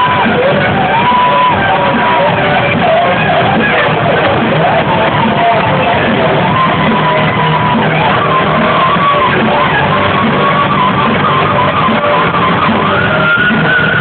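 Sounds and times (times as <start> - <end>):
rock band playing live: 0.0 - 14.0
slide electric guitar: 0.0 - 14.0.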